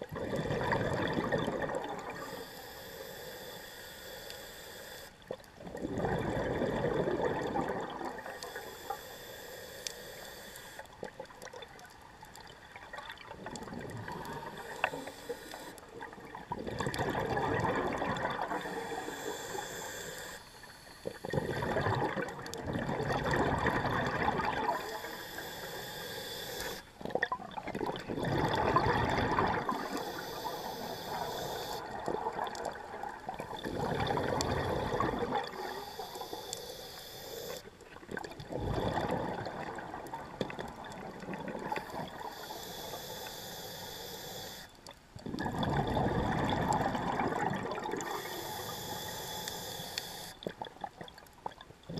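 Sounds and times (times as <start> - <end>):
underwater breath bubbling: 0.0 - 51.1.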